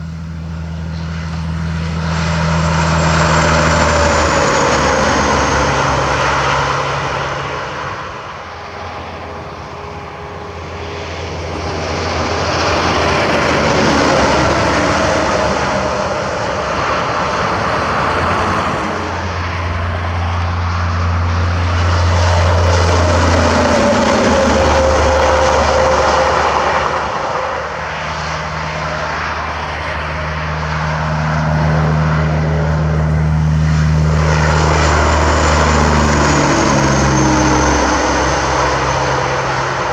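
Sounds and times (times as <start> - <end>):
trucks diesel engine drone: 0.0 - 39.9.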